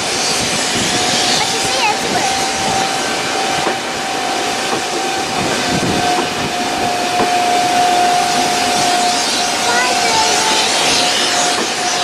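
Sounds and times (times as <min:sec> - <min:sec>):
train coaches rushing past: 0:00.0 - 0:12.0
steady high tone: 0:00.1 - 0:12.0.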